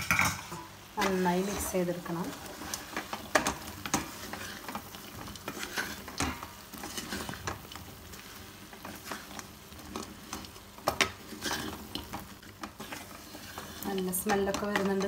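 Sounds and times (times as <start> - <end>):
faint sizzle: 0.0 - 15.0
spoon scraping a pan: 0.0 - 15.0.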